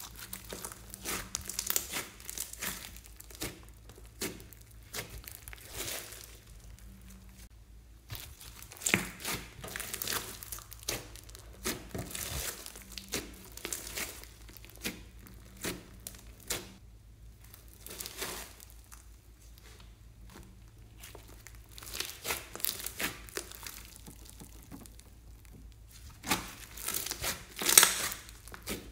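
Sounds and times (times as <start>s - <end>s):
foam bead slime crackling: 0.0s - 28.9s.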